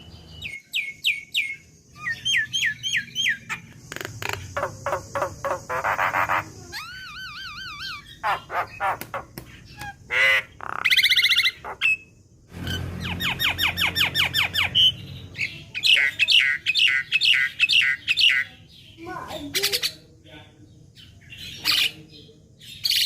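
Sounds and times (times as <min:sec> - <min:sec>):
myna bird singing: 0:00.0 - 0:23.0.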